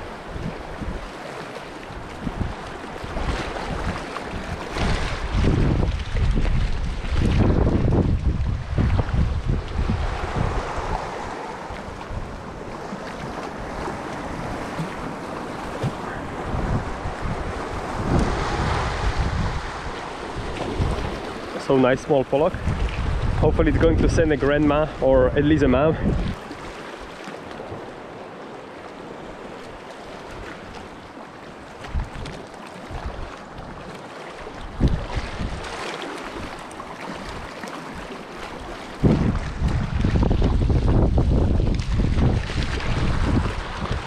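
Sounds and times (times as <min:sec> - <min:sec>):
wind on microphone: 0:00.0 - 0:01.2, 0:01.9 - 0:26.7, 0:31.8 - 0:44.0
surf washing against rocks: 0:00.0 - 0:44.0.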